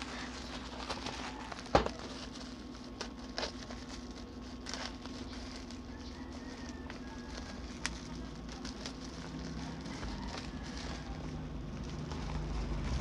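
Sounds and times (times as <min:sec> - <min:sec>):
plastic wrapping crinkling: 0:00.0 - 0:13.0
scissors cutting plastic: 0:00.0 - 0:13.0.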